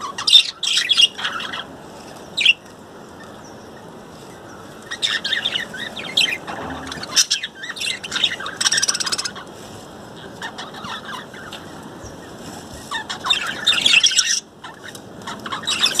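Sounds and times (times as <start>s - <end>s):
budgerigars chirping and chattering: 0.0s - 2.6s, 3.2s - 16.0s.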